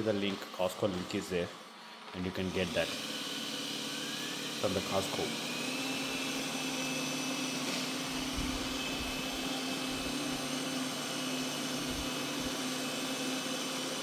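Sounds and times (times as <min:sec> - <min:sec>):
robot vacuum running: 0:00.0 - 0:14.0.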